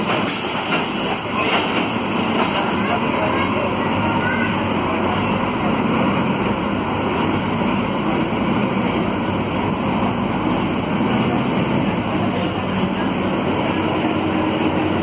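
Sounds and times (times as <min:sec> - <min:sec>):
bus diesel engine running: 0:00.0 - 0:15.0
road noise: 0:00.0 - 0:15.0.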